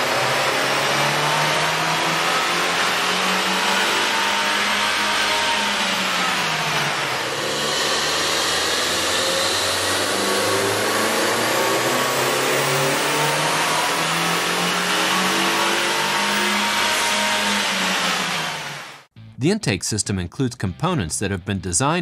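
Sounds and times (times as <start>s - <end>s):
car engine revving on dyno: 0.0s - 19.1s.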